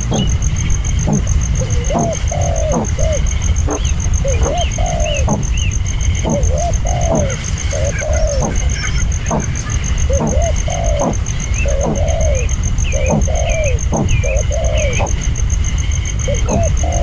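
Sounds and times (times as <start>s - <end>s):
dove cooing: 0.0s - 17.0s
high-pitched pulsing: 0.0s - 17.0s
small high chirps: 0.0s - 17.0s.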